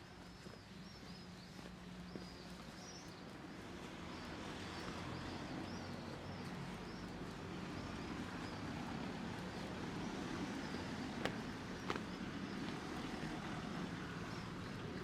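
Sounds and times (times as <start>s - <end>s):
small birds chirping: 0.0s - 15.0s
street traffic: 0.0s - 15.0s.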